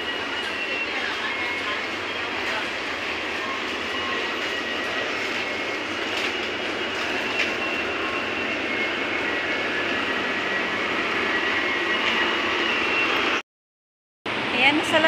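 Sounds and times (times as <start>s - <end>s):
busy station crowd roar: 0.0s - 13.4s, 14.3s - 15.0s.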